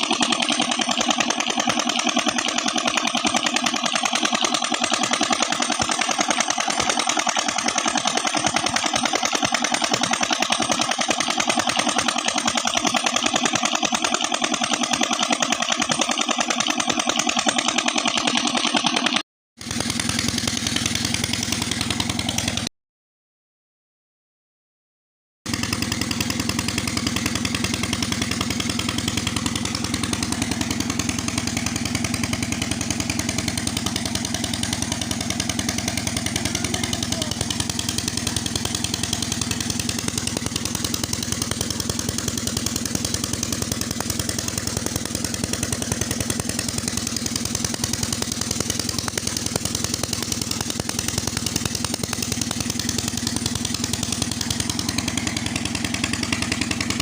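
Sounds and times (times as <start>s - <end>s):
diesel engine running pump: 0.0s - 22.7s, 25.5s - 57.0s.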